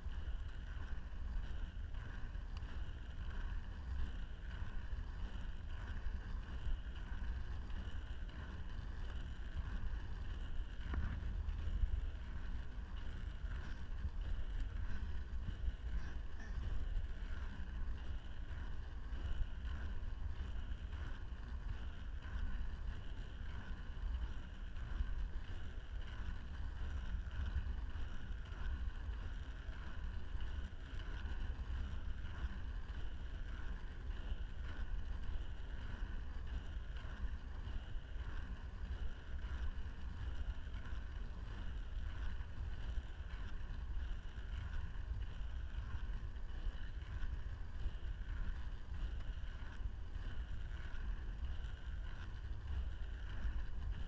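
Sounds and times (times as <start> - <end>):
skate wheels rolling on asphalt: 0.0 - 54.0
wind rumble on microphone: 0.0 - 54.0.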